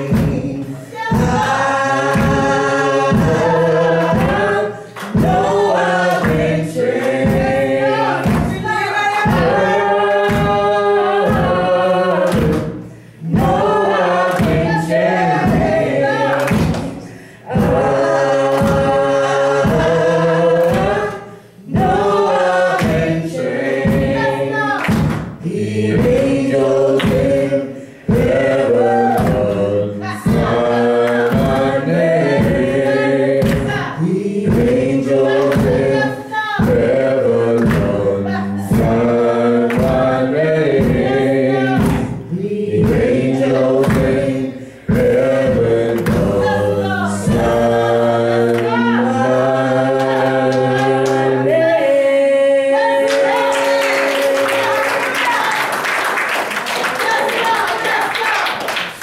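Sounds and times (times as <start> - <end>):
woman singing gospel: 0.0 - 58.5
accompaniment with steady beat: 0.0 - 59.0.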